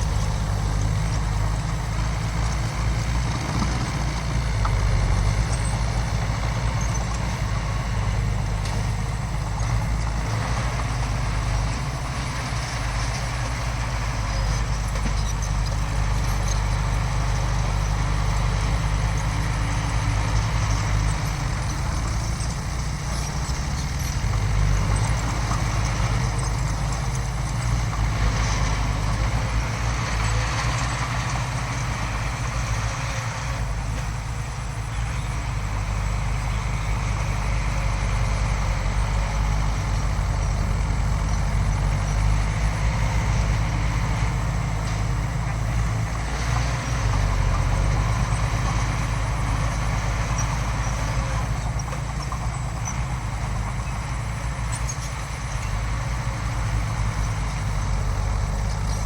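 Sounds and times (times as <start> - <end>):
heavy diesel engine drone: 0.0 - 59.0.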